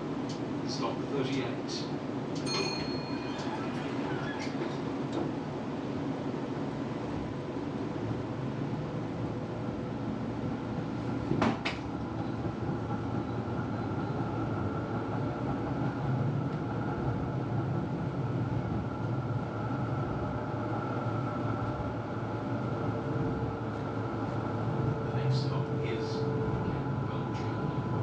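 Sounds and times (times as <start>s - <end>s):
tram rumble: 0.0s - 28.0s.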